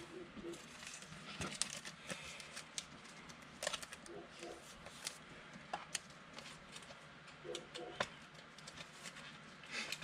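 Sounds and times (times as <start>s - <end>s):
trading cards clicking and rustling: 0.4s - 10.0s.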